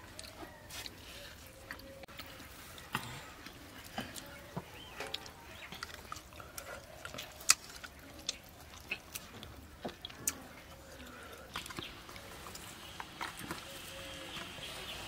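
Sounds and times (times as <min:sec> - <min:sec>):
man chewing food: 0:00.0 - 0:13.7.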